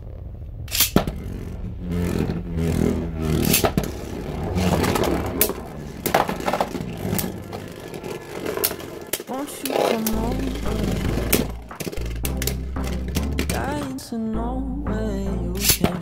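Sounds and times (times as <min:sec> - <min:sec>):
spinning tops whirring and scraping: 0:00.7 - 0:13.8.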